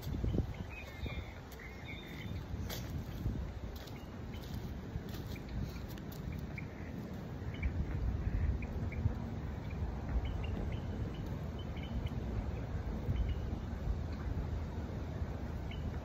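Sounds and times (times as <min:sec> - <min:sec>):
small birds chirping: 0:00.0 - 0:13.6
wind noise on microphone: 0:00.0 - 0:16.0.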